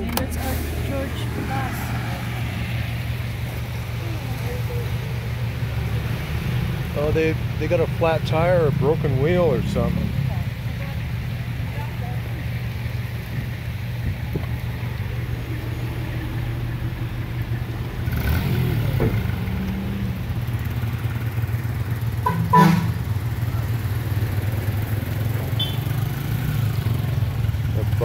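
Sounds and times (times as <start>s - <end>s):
motorcycle engine running: 0.0s - 28.0s
motorcycles passing on wet road: 0.0s - 28.0s.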